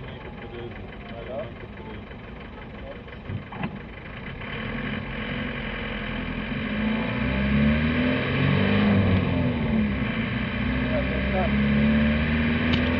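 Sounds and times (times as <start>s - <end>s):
car engine idling and accelerating: 0.0s - 12.9s.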